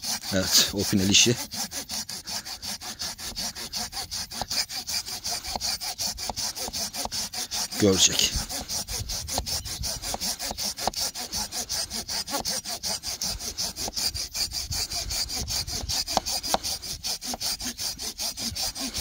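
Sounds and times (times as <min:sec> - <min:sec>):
hand saw cutting log: 0:00.0 - 0:19.0.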